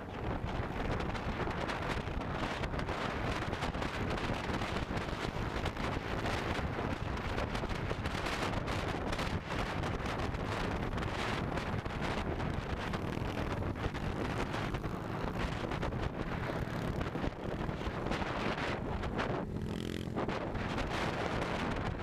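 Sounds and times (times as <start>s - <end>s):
motorcycle engine: 0.0s - 22.0s
road noise: 0.0s - 22.0s
wind buffeting microphone: 0.0s - 22.0s.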